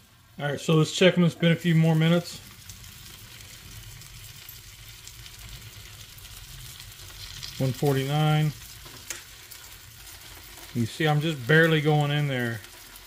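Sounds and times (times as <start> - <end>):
sausages sizzling on griddle: 0.0 - 13.0.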